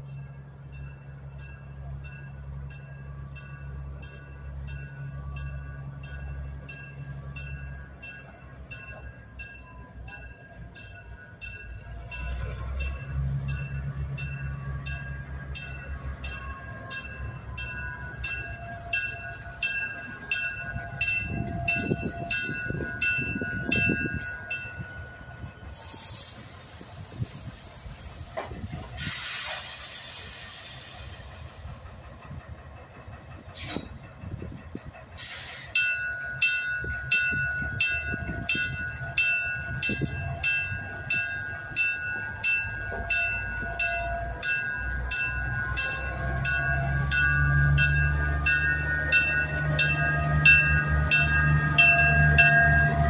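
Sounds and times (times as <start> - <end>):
locomotive engine rumble: 0.0 - 53.0
bell ringing: 0.1 - 25.4, 35.8 - 53.0.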